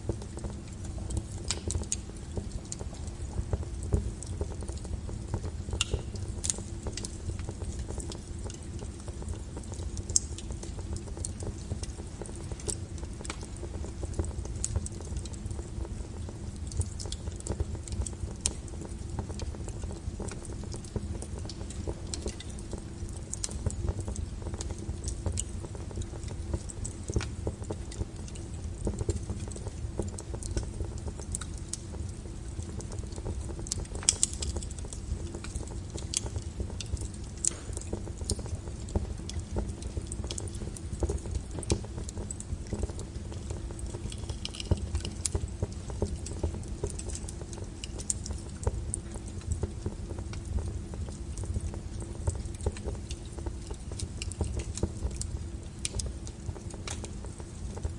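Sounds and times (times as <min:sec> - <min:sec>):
fire low rumble: 0:00.0 - 0:57.9
wood fire crackling and popping: 0:00.0 - 0:57.9.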